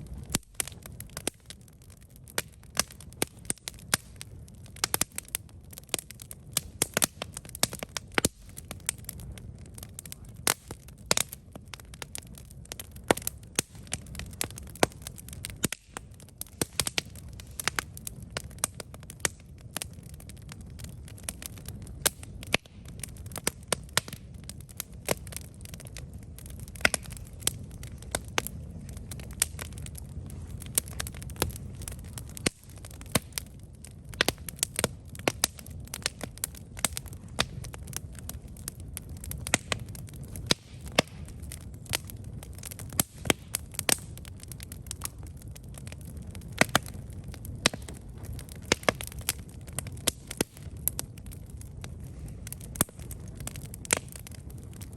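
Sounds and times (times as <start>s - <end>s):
low rumble of flames: 0.0s - 54.9s
wood crackling and popping: 0.0s - 54.9s.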